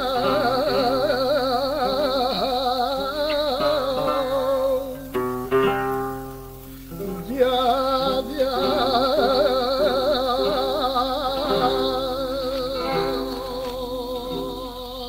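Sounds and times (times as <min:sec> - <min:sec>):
person singing wavering cry: 0:00.0 - 0:05.1, 0:06.9 - 0:15.0
flamenco guitar: 0:00.0 - 0:15.0.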